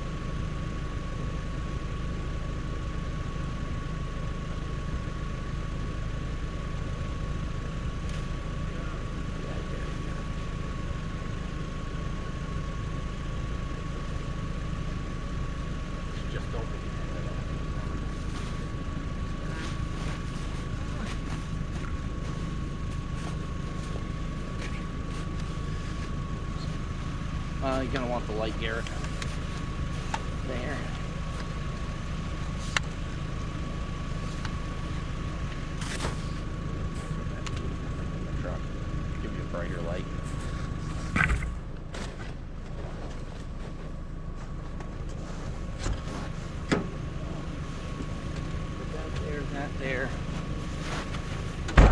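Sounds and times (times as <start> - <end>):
faint whine: 0.0 - 51.9
vehicle engine idling: 0.0 - 51.9.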